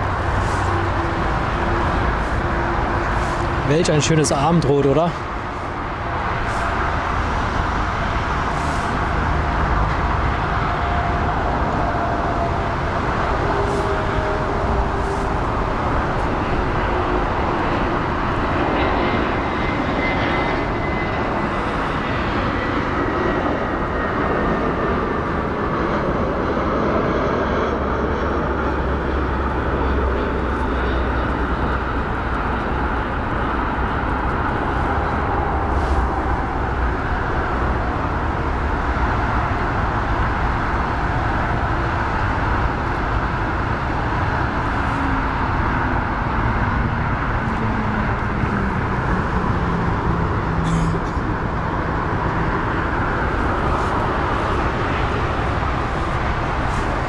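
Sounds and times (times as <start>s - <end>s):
jet engines rushing past: 0.0s - 57.0s.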